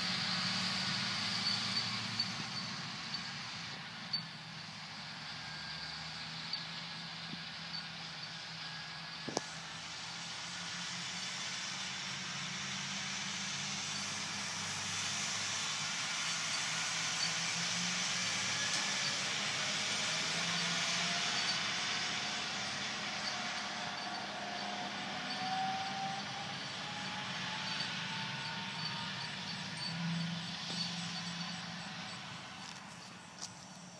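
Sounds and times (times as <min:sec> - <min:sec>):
distant machinery engine drone: 0:00.0 - 0:33.9
faint rising whine: 0:00.0 - 0:33.9.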